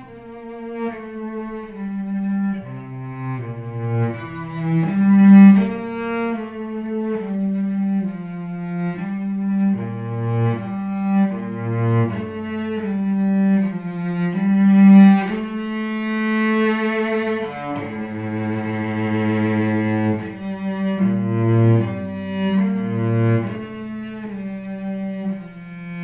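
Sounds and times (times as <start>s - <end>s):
bowed cello: 0.0s - 26.0s.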